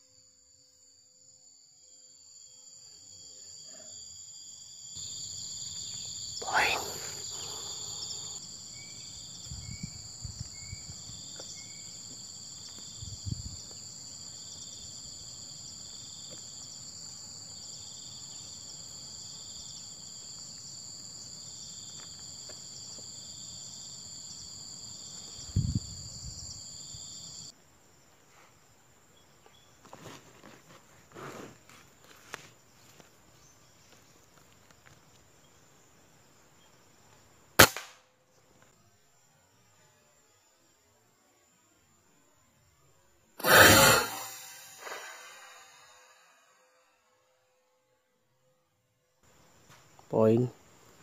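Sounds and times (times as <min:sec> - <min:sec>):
insects droning and chirping: 0:00.0 - 0:51.0.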